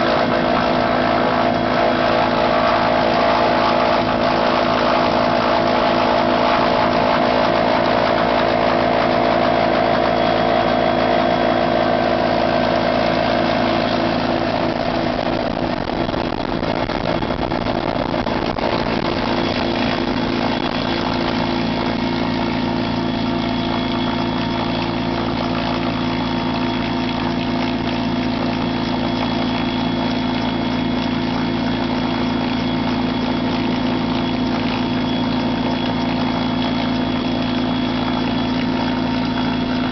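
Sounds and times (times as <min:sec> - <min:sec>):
faint high whine: 0:00.0 - 0:39.9
helicopter engine and rotor drone: 0:00.0 - 0:39.9.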